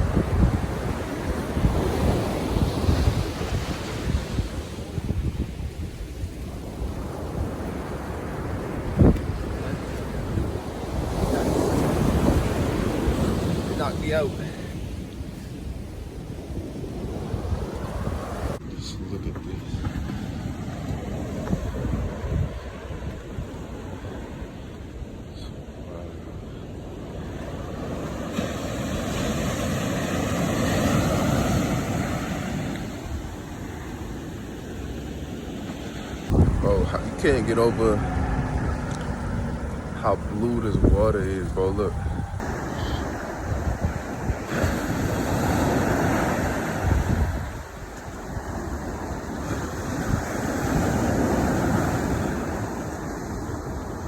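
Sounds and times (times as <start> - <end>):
wind on microphone: 0.0 - 25.8, 26.9 - 54.0
ocean waves washing in: 0.0 - 54.0.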